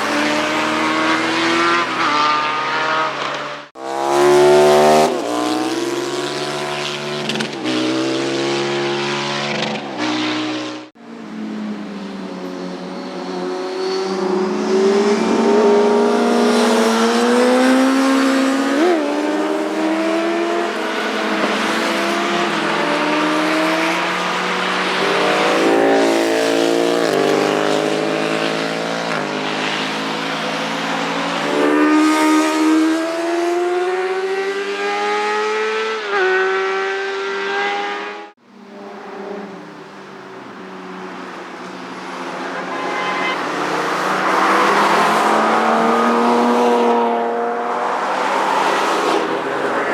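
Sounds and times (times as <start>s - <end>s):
motorcycles passing at speed: 0.0s - 40.3s, 41.7s - 49.9s.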